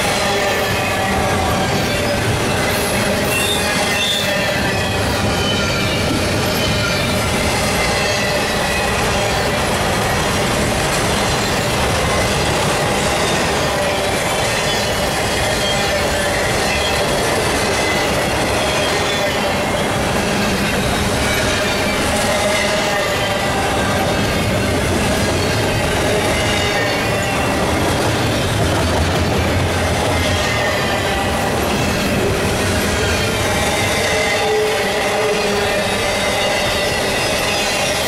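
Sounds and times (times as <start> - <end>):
high wheel squeal: 0.0 - 38.0.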